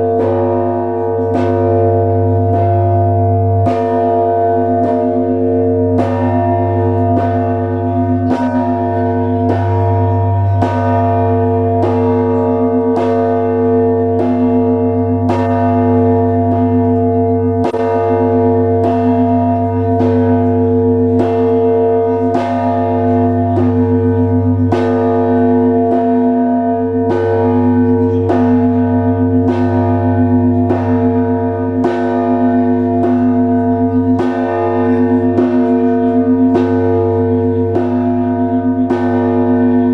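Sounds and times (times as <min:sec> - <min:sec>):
deep hum of large bell: 0:00.0 - 0:39.9
small bells struck rapidly: 0:00.0 - 0:39.9.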